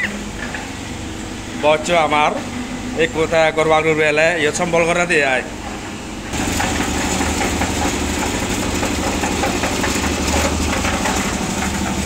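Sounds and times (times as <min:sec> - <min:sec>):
concrete mixer engine running: 0:00.0 - 0:12.0.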